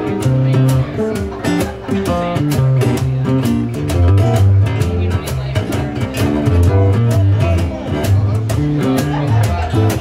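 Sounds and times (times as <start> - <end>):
acoustic bass guitar line: 0.0 - 10.0
acoustic guitar: 0.0 - 10.0.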